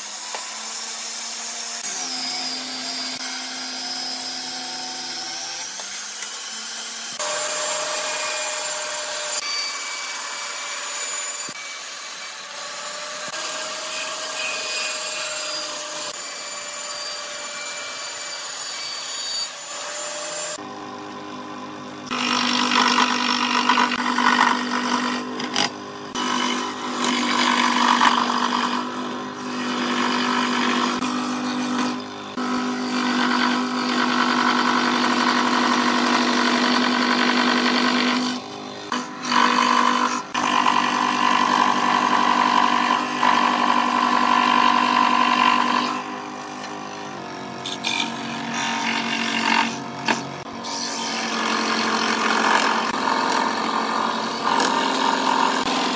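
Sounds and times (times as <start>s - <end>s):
scroll saw cutting wood: 0.0s - 20.7s, 22.0s - 55.9s.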